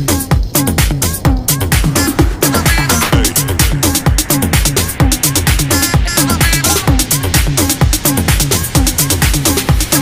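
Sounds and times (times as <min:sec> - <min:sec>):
electronic dance music: 0:00.1 - 0:10.0.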